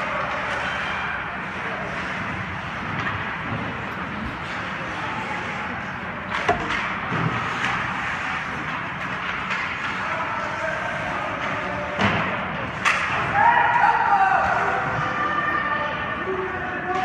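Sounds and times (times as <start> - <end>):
sports game crowd noise: 0.0 - 17.0.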